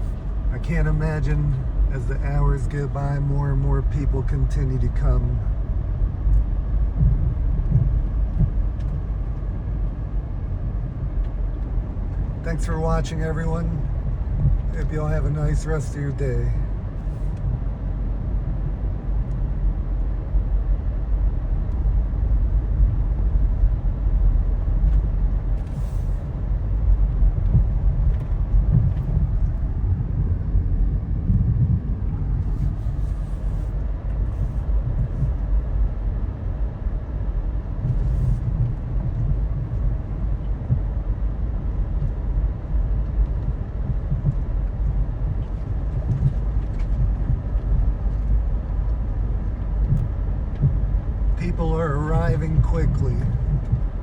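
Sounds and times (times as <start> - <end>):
vehicle engine low rumble: 0.0 - 54.0.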